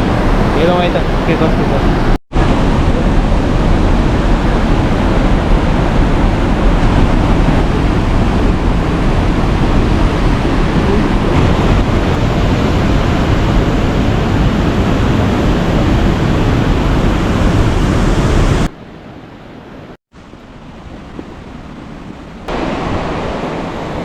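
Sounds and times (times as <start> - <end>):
fast-flowing river rushing: 0.0 - 18.6, 19.7 - 24.0.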